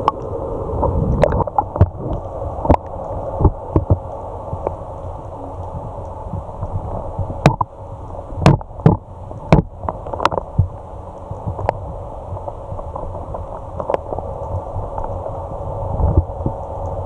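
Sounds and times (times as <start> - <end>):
muffled underwater noise: 0.0 - 17.0.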